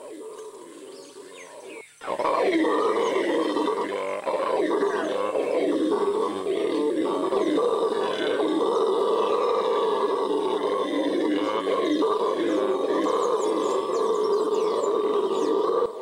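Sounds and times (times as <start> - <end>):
howler monkey roaring: 0.0 - 16.0.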